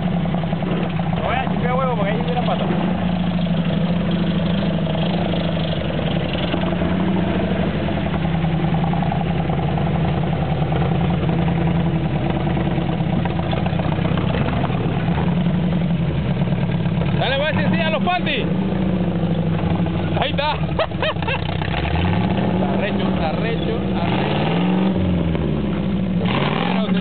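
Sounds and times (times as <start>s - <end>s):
engine running at low revs: 0.0s - 27.0s.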